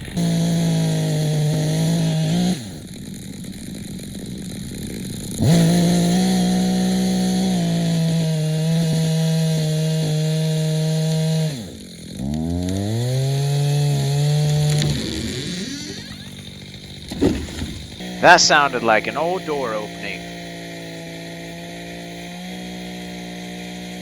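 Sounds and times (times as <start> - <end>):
chainsaw cutting wood: 0.0 - 18.2, 20.2 - 24.0.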